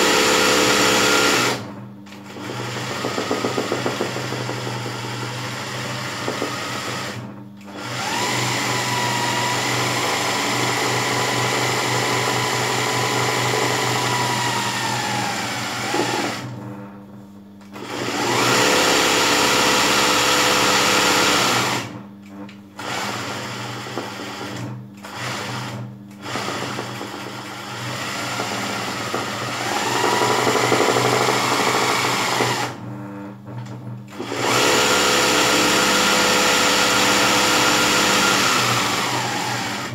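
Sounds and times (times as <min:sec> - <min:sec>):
sewing machine motor whine: 0:00.0 - 0:16.9, 0:17.7 - 0:39.9.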